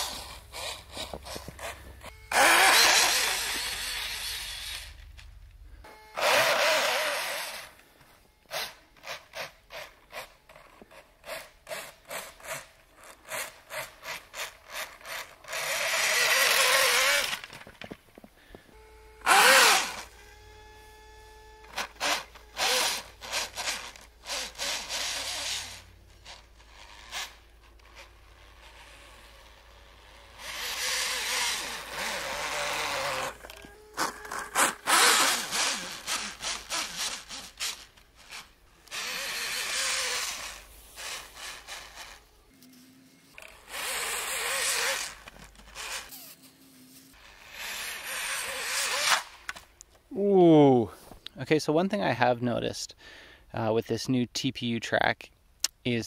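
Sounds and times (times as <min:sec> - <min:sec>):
toy snowmobile motor running: 0:00.0 - 0:05.2, 0:05.8 - 0:17.7, 0:18.7 - 0:49.3.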